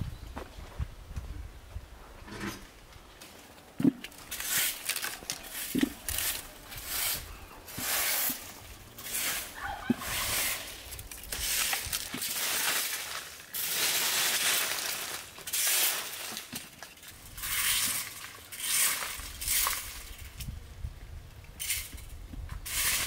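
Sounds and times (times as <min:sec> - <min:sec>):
rustling and crunching: 0:00.0 - 0:23.0.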